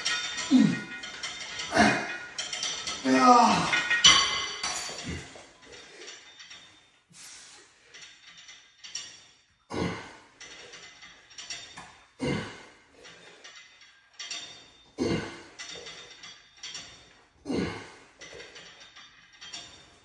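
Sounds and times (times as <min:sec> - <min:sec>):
light rattling and sliding: 0:00.0 - 0:09.6, 0:10.2 - 0:20.0
cables running over pulleys: 0:00.0 - 0:20.0
weight stack clanking: 0:00.0 - 0:20.0.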